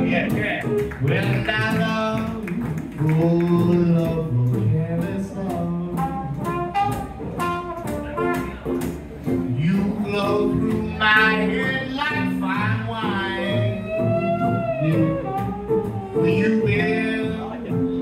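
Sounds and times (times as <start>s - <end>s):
lead melody line: 0.0s - 18.0s
rhythm guitar strumming: 0.0s - 18.0s
upright bass walking: 0.0s - 18.0s.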